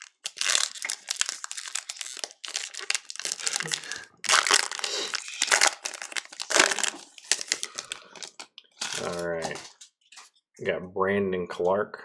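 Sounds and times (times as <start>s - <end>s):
foil wrapper crinkling: 0.0s - 10.3s.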